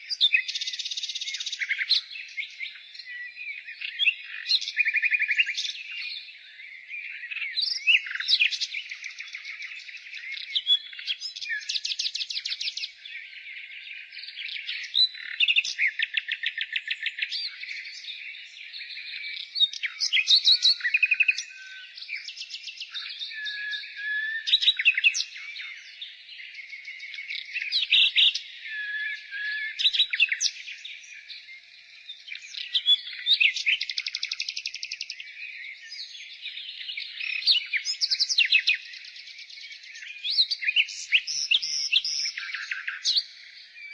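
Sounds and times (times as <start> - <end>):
nightingale singing: 0.0 - 43.9.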